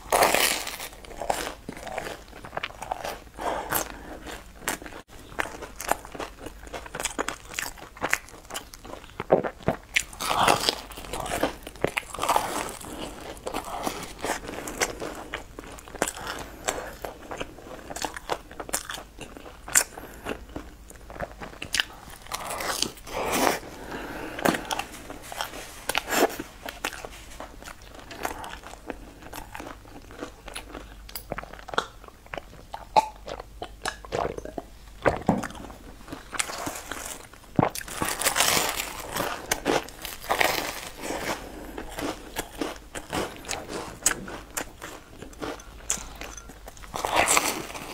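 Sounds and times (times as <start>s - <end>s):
person chewing crusty bread: 0.0s - 47.9s.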